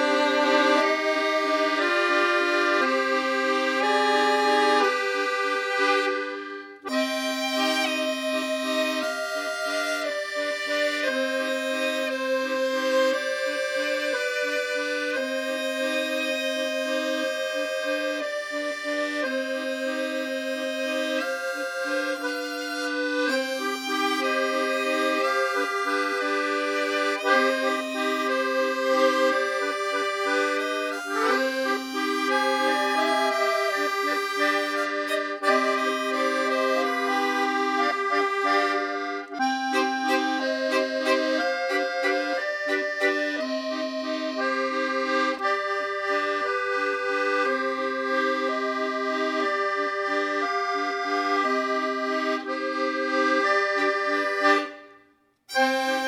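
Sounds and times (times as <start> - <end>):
accordion music: 0.0 - 56.0.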